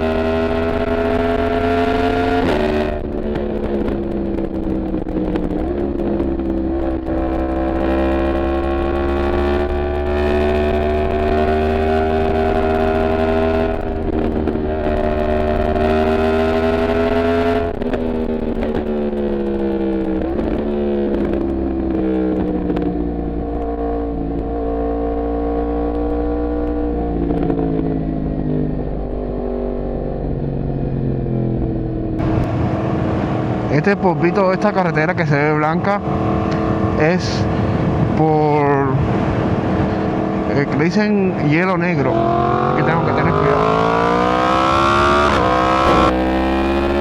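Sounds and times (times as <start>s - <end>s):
motorcycle engine running: 0.0s - 47.0s
wind rumble on microphone: 0.0s - 47.0s.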